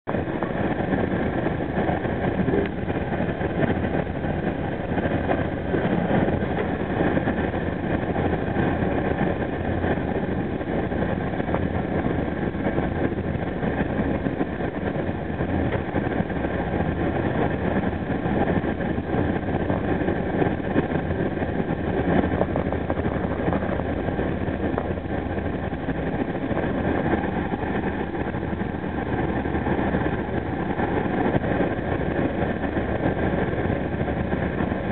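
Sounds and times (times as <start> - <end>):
low engine drone: 0.0 - 34.9
train wheels rumbling on rail: 0.0 - 34.9.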